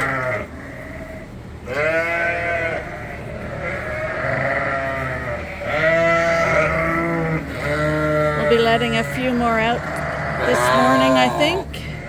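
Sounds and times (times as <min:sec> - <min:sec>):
sheep bleating: 0:00.0 - 0:12.0.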